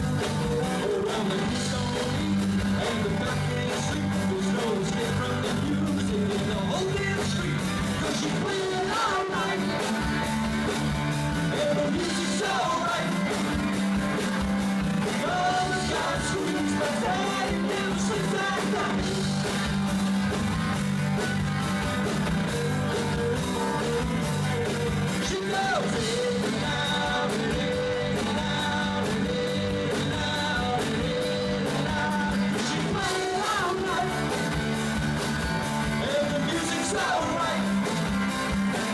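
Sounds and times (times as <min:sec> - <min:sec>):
lead singer singing: 0:00.0 - 0:10.2, 0:11.4 - 0:13.8, 0:14.9 - 0:19.8, 0:22.1 - 0:34.6, 0:35.8 - 0:38.3
live rock band playing: 0:00.0 - 0:38.9.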